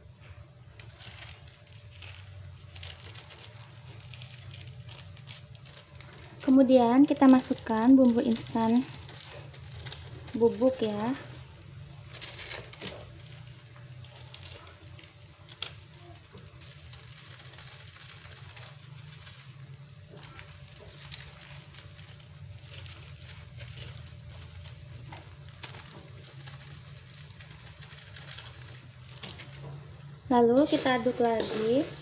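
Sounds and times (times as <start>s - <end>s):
low steady hum: 0.0s - 32.0s
noodles sizzling in a wok: 0.8s - 32.0s.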